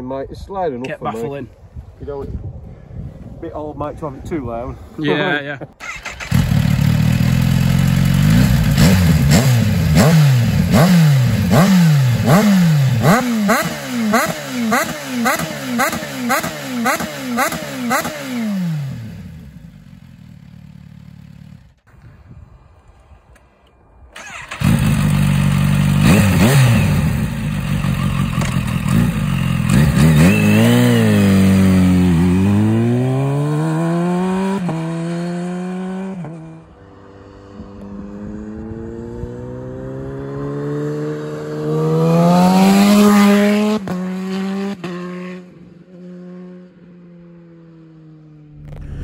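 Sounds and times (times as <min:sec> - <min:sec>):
motorcycle revving and pulling away: 0:05.8 - 0:21.9, 0:24.2 - 0:48.9.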